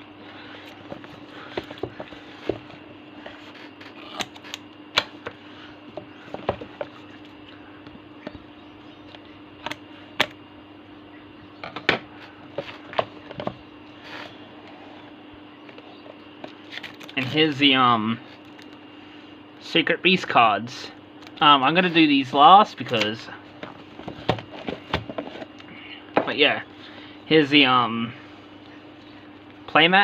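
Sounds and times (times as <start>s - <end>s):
steady faint hum: 0.0s - 30.0s.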